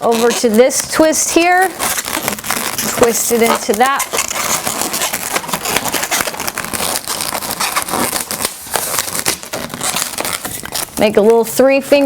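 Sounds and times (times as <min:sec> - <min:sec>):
balloons rubbing and crackling: 0:00.0 - 0:12.0.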